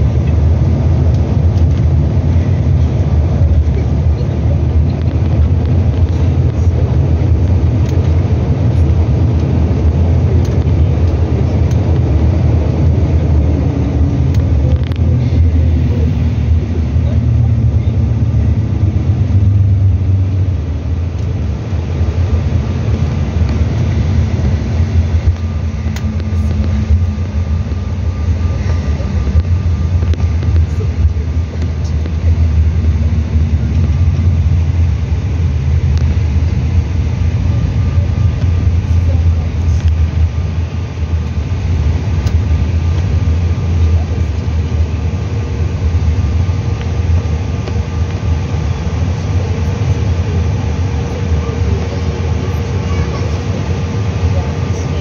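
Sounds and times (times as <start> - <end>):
aircraft wheels rolling on pavement: 0.0 - 55.0
jet engines running: 0.0 - 55.0.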